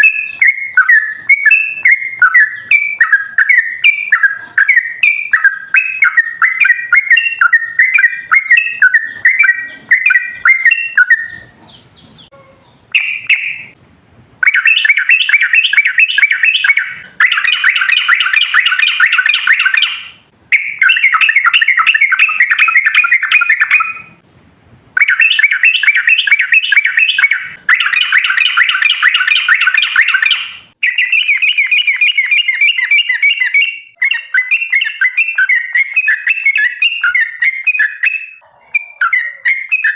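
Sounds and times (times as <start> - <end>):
bird chattering song: 0.0 - 13.8, 14.4 - 24.2, 25.0 - 39.9.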